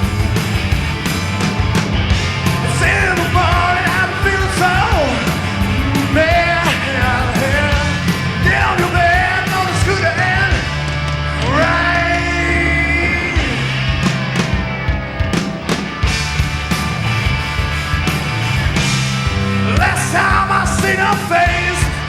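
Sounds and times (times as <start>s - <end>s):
bass guitar: 0.0s - 22.0s
drums: 0.0s - 22.0s
lead electric guitar bending notes: 0.0s - 22.0s.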